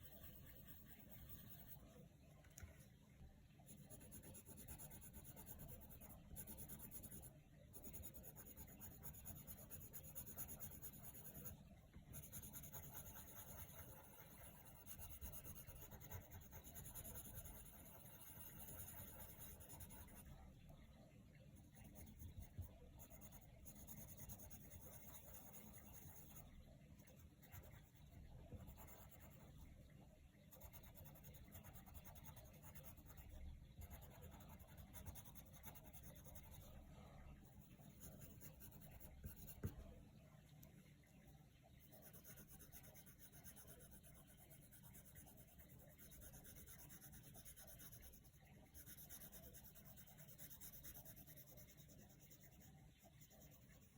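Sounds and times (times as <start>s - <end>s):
pencil scratching on paper: 0.0s - 1.9s, 3.6s - 20.4s, 21.6s - 29.7s, 30.5s - 36.9s, 37.6s - 39.9s, 41.9s - 53.9s.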